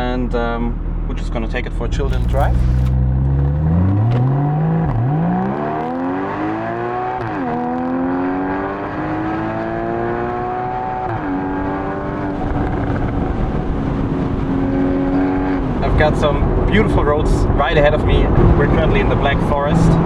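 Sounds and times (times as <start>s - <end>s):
car engine accelerating: 0.9s - 20.0s.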